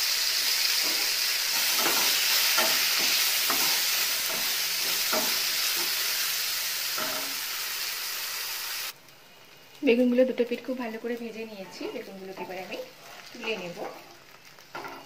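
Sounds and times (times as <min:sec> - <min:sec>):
eggplant sizzling in hot oil: 0:00.0 - 0:15.0.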